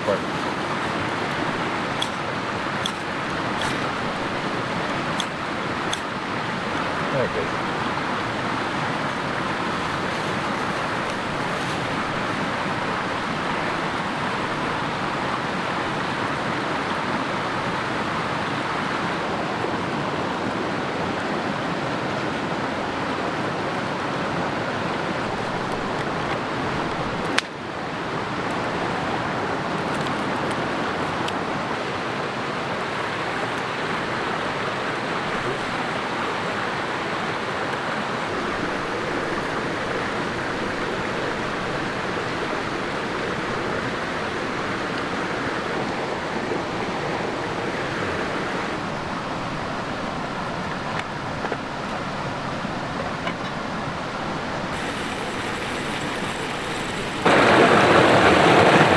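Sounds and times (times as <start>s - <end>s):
creek rushing over boulders: 0.0s - 58.9s.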